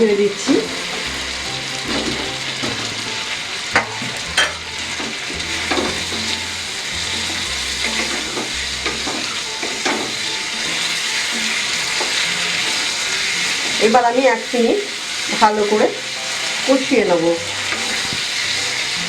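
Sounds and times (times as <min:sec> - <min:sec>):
paste sizzling in frying pan: 0:00.0 - 0:19.0
spatula stirring food: 0:00.5 - 0:19.0.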